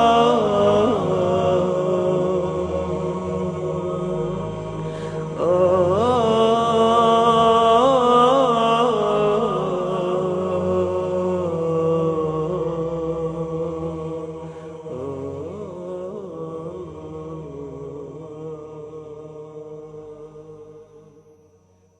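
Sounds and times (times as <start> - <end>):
vocal chant: 0.0 - 21.8.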